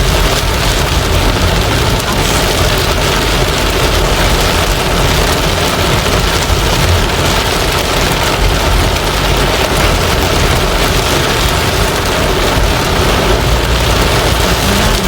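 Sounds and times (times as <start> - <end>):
car rumbling on road: 0.0 - 15.0
heavy rain on a car: 0.0 - 15.0.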